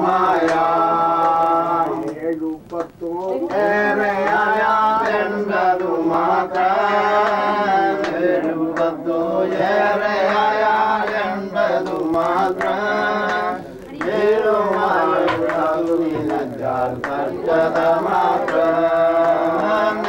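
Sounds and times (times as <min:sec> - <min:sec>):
person singing devotional song: 0:00.0 - 0:20.0.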